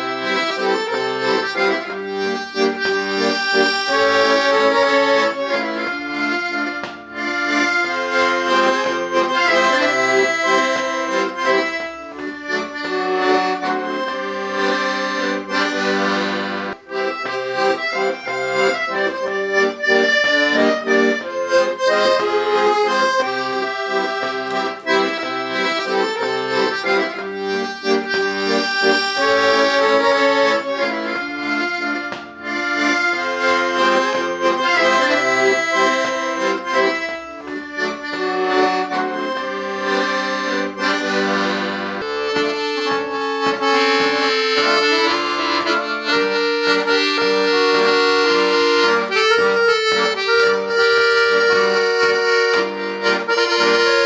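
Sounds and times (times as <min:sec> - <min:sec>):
accordion playing a tune: 0:00.0 - 0:54.0.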